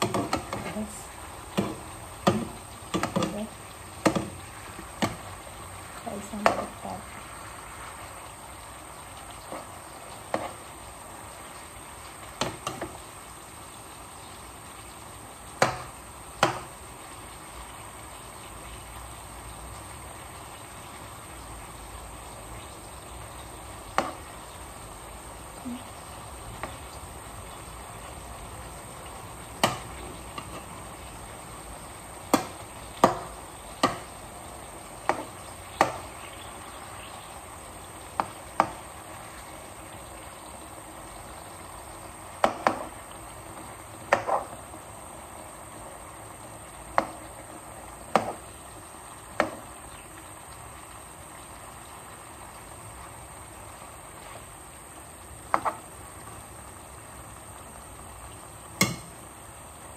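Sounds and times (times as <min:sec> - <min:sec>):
chicken sizzling in a pan: 0:00.0 - 0:59.9.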